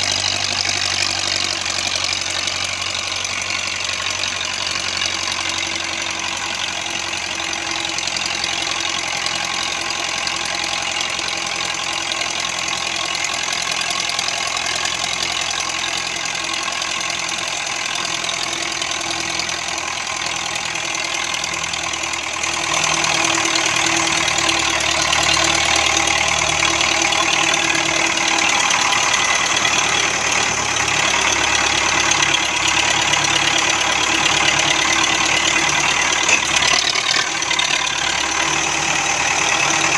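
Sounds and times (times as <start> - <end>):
tractor diesel engine knocking: 0.0 - 39.9.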